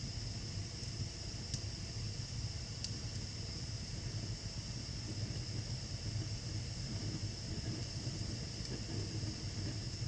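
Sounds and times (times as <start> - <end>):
wood fire burning: 0.0 - 10.0.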